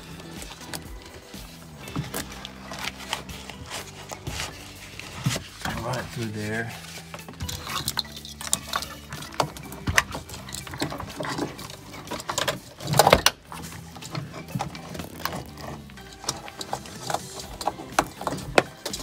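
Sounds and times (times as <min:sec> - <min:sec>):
rustle and scrape: 0:00.2 - 0:19.0.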